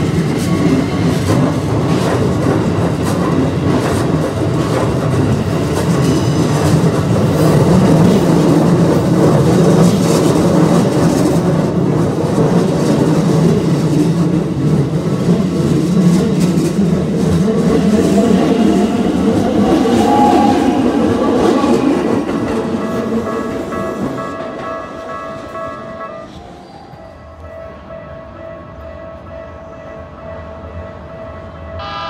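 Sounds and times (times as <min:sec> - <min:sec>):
steel wheels rumbling on rails: 0:00.0 - 0:31.7.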